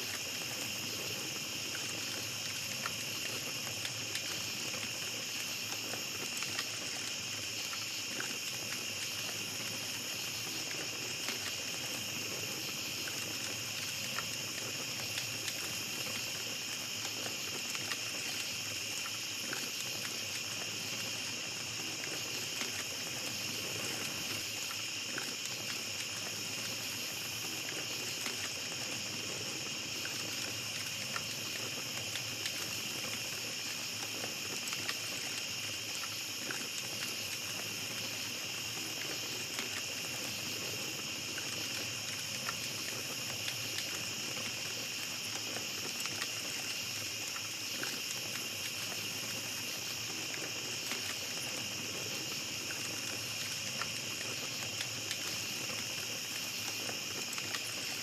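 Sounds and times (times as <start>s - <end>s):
campfire crackling: 0.0s - 58.0s
night insects chorus: 0.0s - 58.0s.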